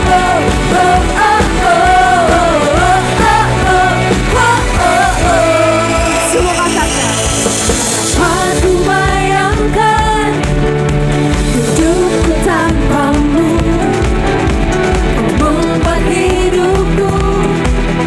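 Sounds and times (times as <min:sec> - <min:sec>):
person singing: 0:00.0 - 0:18.0
worship band playing: 0:00.0 - 0:18.0.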